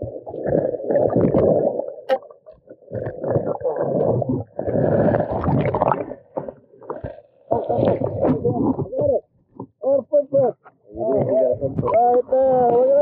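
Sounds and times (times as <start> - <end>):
muffled underwater water sloshing: 0.0 - 9.8, 10.4 - 13.0.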